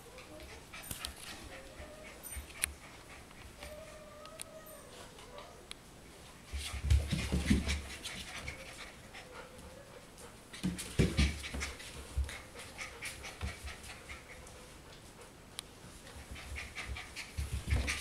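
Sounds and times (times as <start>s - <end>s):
puppy sniffing and panting: 0.1s - 3.9s, 6.4s - 18.0s.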